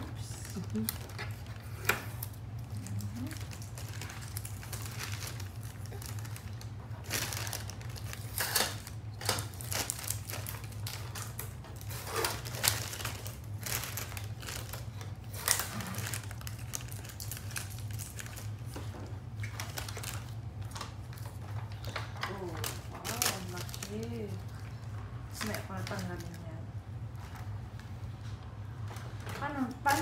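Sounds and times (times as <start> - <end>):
plastic crinkling: 0.0 - 30.0
steady low hum: 0.0 - 30.0.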